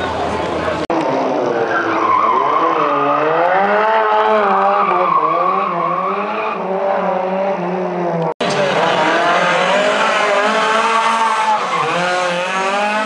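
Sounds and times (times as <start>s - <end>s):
car engine revving: 0.7s - 13.0s.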